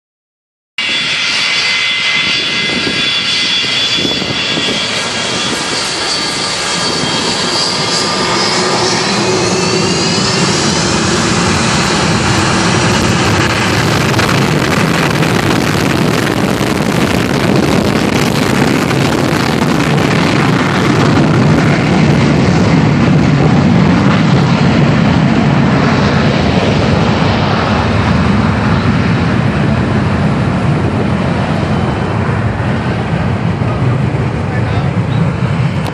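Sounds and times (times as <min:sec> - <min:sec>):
jet engine roar: 0:00.8 - 0:35.9
jet engine whine: 0:00.8 - 0:35.9.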